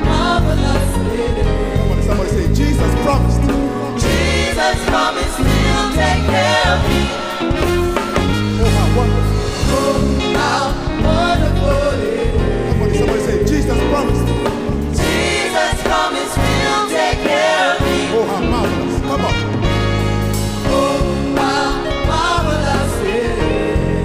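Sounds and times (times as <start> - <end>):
gospel choir singing: 0.0 - 24.0
instrumental backing with bass: 0.0 - 24.0.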